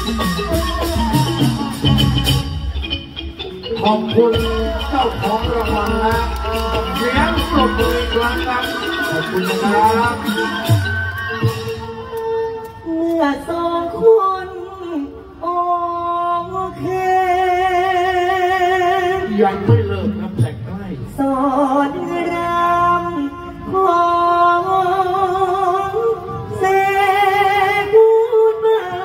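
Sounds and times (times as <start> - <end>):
person singing with vibrato: 3.6 - 12.0, 12.8 - 29.0.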